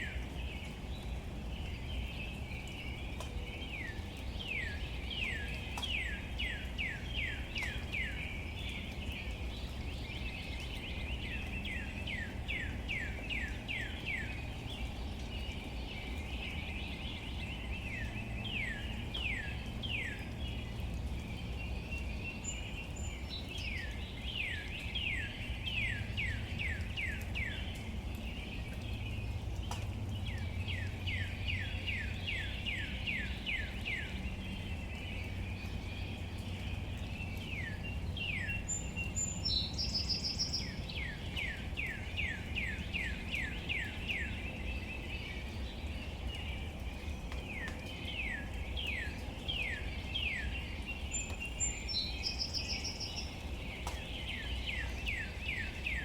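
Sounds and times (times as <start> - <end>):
low background noise: 0.0 - 56.0
songbird singing: 0.0 - 56.0.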